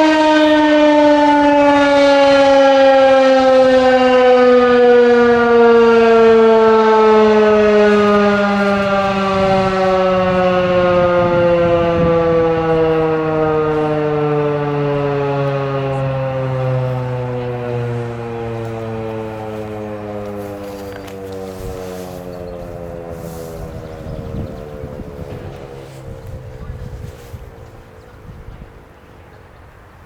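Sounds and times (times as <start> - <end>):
warning siren winding down: 0.0 - 30.0.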